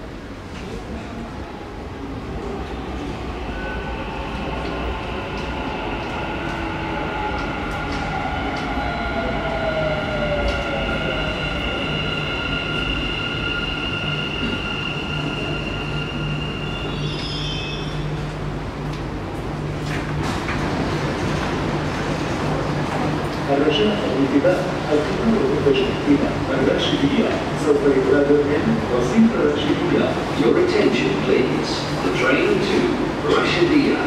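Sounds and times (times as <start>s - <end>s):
train low hum: 0.0s - 34.0s.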